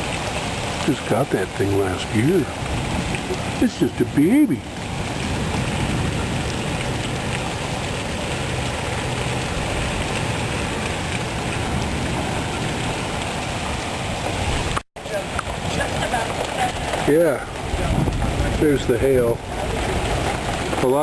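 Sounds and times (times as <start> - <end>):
rain splashing on surfaces: 0.0 - 21.0.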